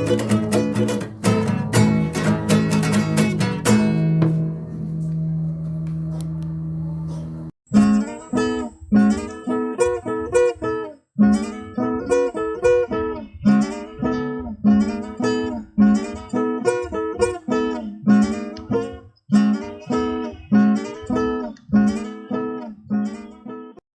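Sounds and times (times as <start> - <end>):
acoustic guitar strumming chords: 0.0 - 23.8.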